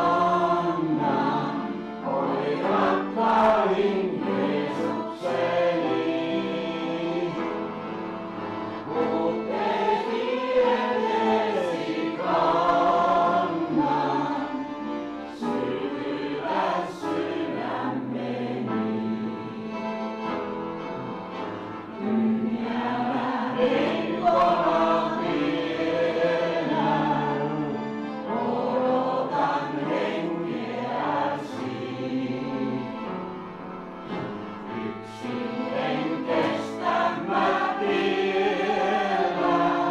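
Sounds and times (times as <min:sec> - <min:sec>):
piano accordion: 0:00.0 - 0:39.9
upright piano: 0:00.0 - 0:39.9
voices singing: 0:00.0 - 0:39.9.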